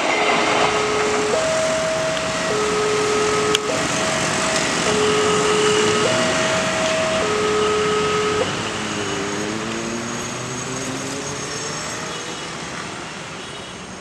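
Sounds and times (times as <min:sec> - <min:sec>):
railway warning tone: 0:00.0 - 0:13.4
motorcycle and car engines running: 0:00.5 - 0:12.4.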